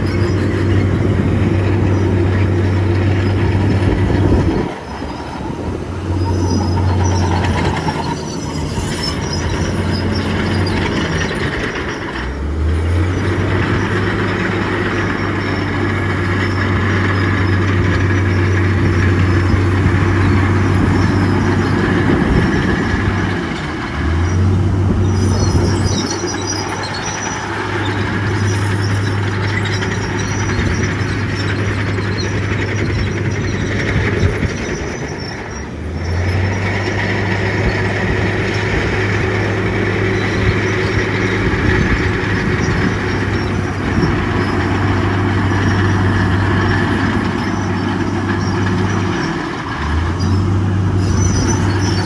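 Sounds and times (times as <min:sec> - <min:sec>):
bulldozer diesel engine working: 0:00.0 - 0:52.0
steel tracks grinding and squealing: 0:00.0 - 0:52.0.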